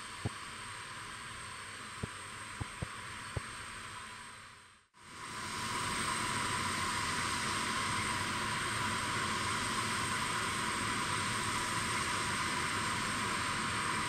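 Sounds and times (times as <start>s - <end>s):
jet turbine hiss and whine: 0.0s - 14.0s.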